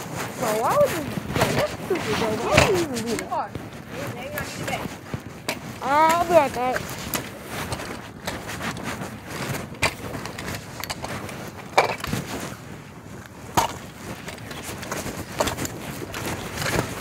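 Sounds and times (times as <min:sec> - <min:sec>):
fabric rubbing over microphone: 0:00.0 - 0:17.0.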